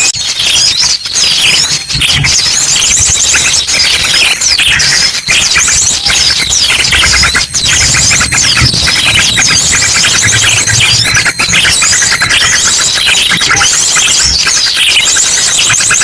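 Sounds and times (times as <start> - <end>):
rapid bird song: 0.0 - 16.0
small birds chirping and trilling: 0.0 - 16.0.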